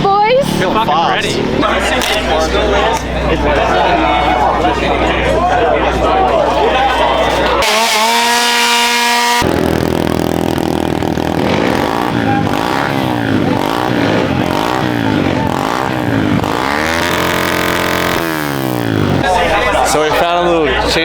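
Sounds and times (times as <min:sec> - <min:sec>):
pit bike engine revving: 0:00.0 - 0:20.2.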